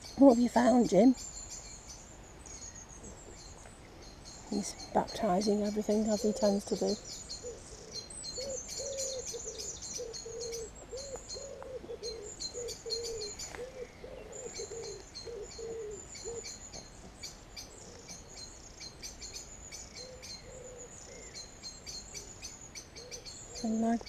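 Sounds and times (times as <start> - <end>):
lower repeated bird notes: 0.0 - 24.0
songbirds chirping: 0.0 - 24.0.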